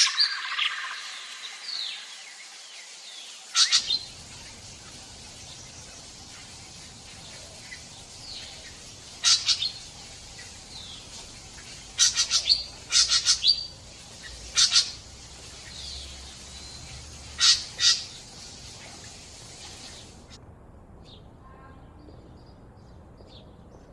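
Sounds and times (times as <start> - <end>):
faint bird chirping: 0.0 - 20.3
steady background hiss: 0.0 - 21.6.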